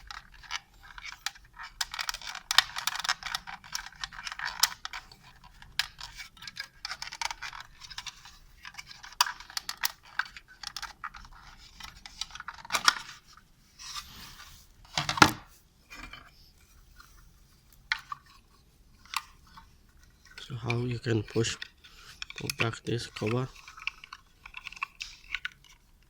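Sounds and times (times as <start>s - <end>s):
plastic parts clicking and scraping: 0.0s - 26.0s.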